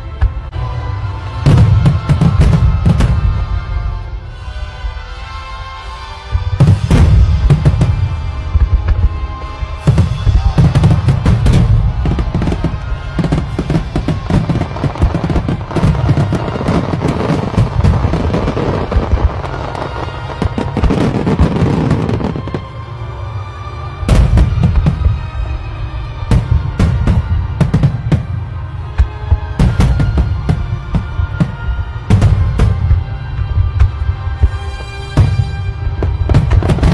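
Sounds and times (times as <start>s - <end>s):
background music: 0.0s - 36.9s
fireworks banging and crackling: 1.3s - 4.7s, 6.4s - 23.2s, 24.0s - 36.9s.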